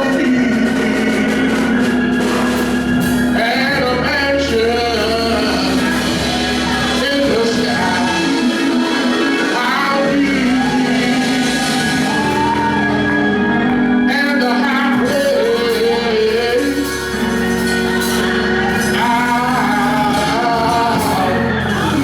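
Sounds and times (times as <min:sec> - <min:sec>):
church band playing: 0:00.0 - 0:22.0
voices singing held notes: 0:00.0 - 0:22.0.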